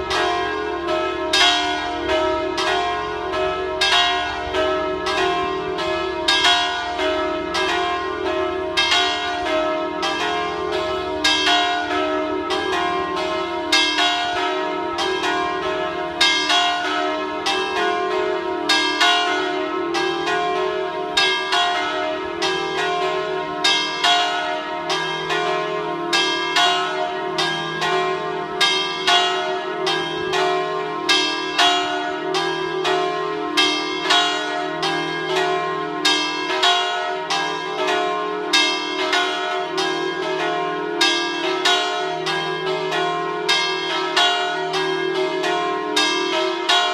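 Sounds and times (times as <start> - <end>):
church bells ringing in peal: 0.0 - 46.9.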